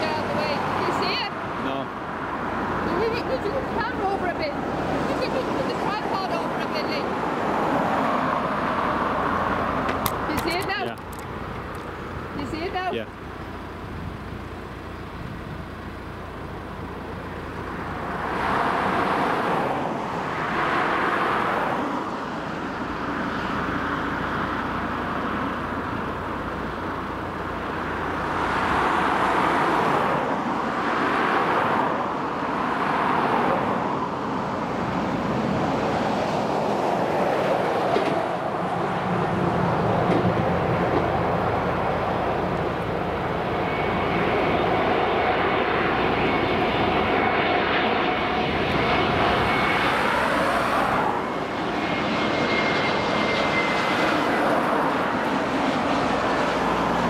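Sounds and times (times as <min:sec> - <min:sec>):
distant jet engines roaring: 0:00.0 - 0:57.0.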